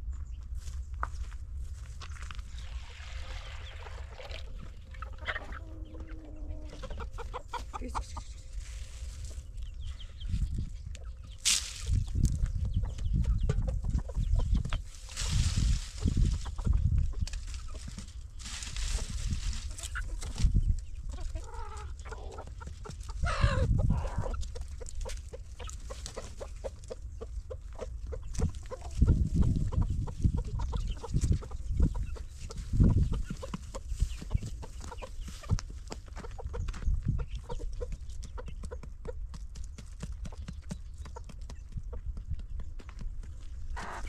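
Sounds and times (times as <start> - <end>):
chickens clucking: 2.7 - 44.0.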